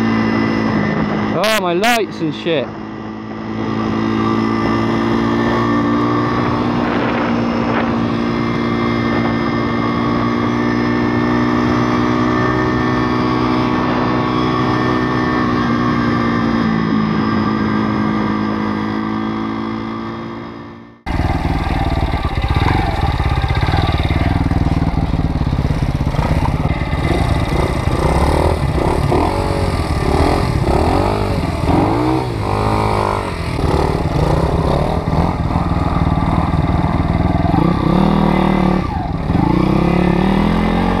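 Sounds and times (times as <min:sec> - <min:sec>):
dirt bike engines revving: 0:00.0 - 0:41.0
motorbike engine running: 0:00.0 - 0:41.0.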